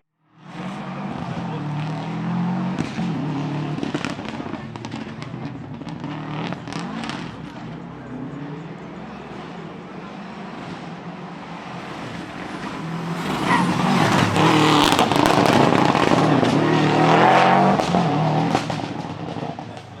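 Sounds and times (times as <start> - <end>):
rally car passing by: 0.3 - 20.0.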